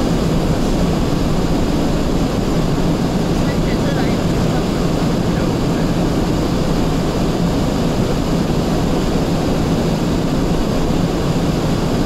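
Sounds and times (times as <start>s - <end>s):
strong snowstorm wind: 0.0s - 12.0s.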